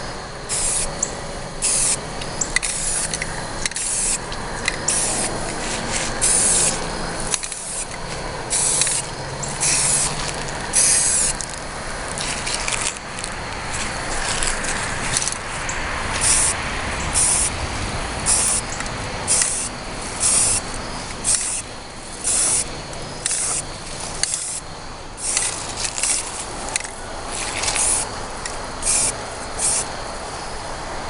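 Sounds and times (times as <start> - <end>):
spray paint can hissing: 0.4 - 17.6, 18.2 - 30.0.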